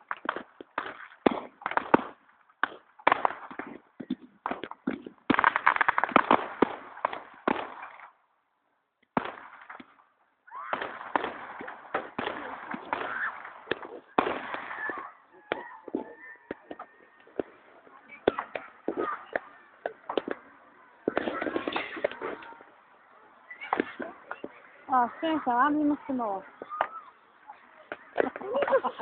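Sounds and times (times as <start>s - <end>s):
fireworks bangs and crackling: 0.0s - 8.2s, 9.0s - 29.0s.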